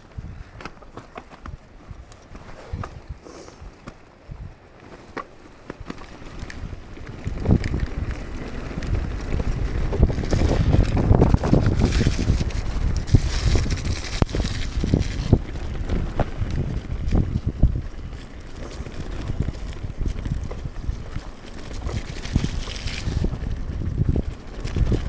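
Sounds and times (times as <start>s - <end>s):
bike knocks and rattles: 0.0s - 25.0s
wind buffeting microphone: 0.0s - 25.0s.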